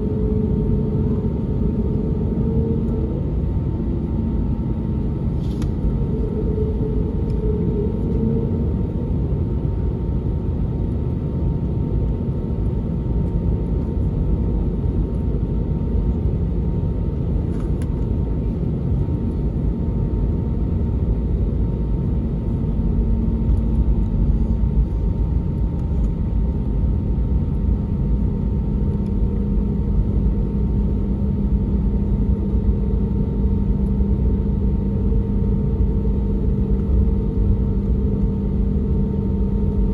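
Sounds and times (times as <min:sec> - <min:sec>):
aircraft engine and airflow rumble: 0:00.0 - 0:39.9.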